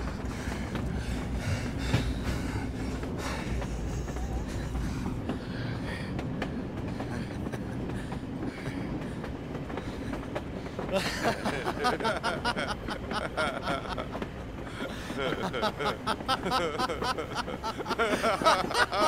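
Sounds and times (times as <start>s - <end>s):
train rumble: 0.0s - 19.0s
wheels clacking over rail joints: 0.0s - 19.0s.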